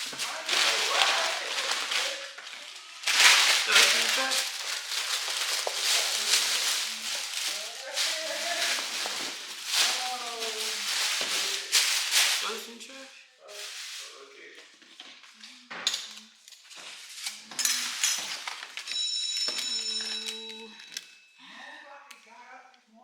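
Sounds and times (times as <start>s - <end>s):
food containers and utensils clattering: 0.0s - 12.7s, 13.5s - 21.3s.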